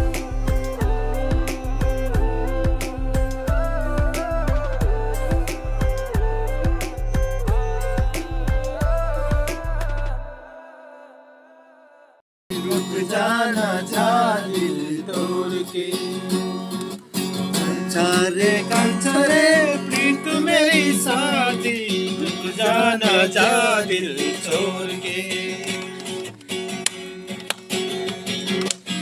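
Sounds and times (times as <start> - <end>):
acoustic guitar playing: 0.0 - 10.3, 12.5 - 29.0
person singing: 0.0 - 16.4, 17.6 - 26.1.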